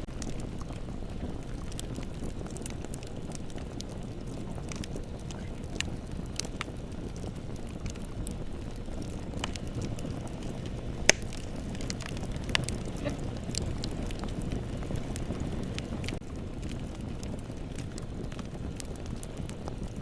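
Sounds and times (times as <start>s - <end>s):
bonfire burning and crackling: 0.0s - 20.0s.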